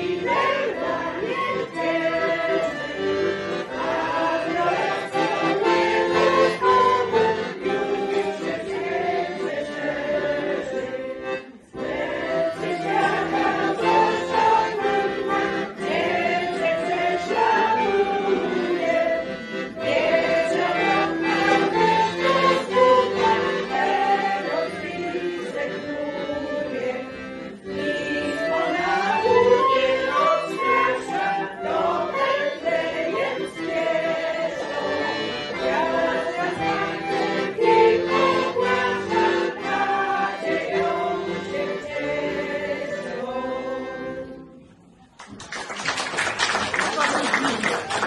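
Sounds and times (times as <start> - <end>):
folk choir singing a carol: 0.0 - 44.8
accordion: 0.0 - 45.3.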